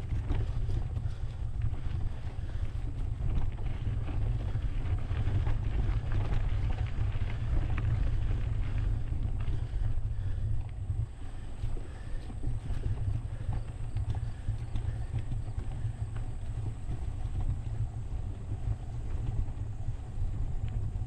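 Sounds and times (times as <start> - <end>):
bike clicks and rattles: 0.0 - 21.0
bike tyre noise: 0.0 - 21.0
wind buffeting microphone: 0.0 - 21.0.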